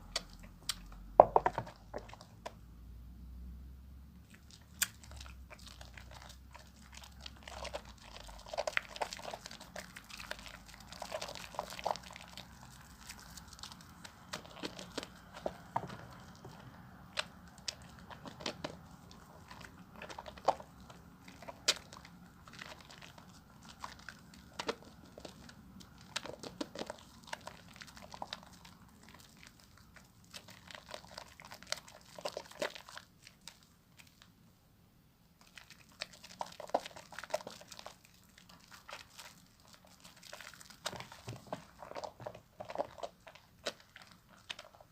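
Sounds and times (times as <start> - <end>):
soap lathering squishing: 4.3 - 34.4, 35.4 - 44.9.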